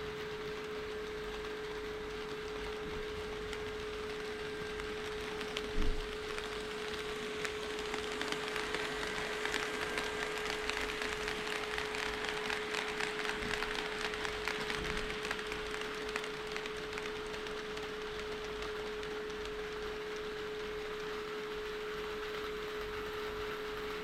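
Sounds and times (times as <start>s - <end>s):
model train wheels clicking: 0.0s - 24.0s
steady hum: 0.0s - 24.0s.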